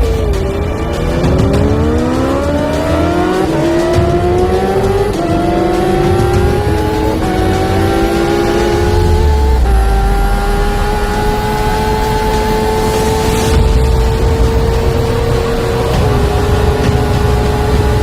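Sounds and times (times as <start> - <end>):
motorcycle engine at full throttle: 0.0 - 18.0.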